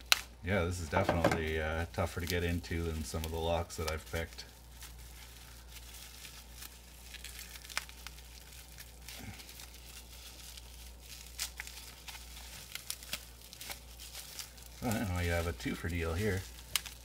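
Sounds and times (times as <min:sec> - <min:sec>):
tape peeling: 0:00.0 - 0:00.3, 0:02.0 - 0:17.0
bubble wrap crinkling: 0:00.0 - 0:17.0.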